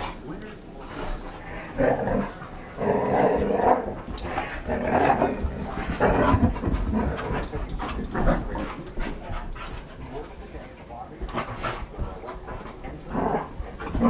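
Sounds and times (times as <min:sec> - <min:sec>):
dogs growling playfully: 0:00.0 - 0:14.0
dogs panting: 0:00.0 - 0:14.0.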